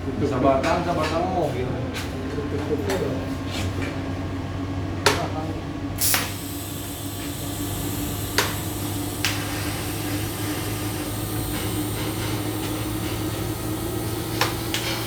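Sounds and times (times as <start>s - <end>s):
electrical machine hum: 0.0s - 15.0s.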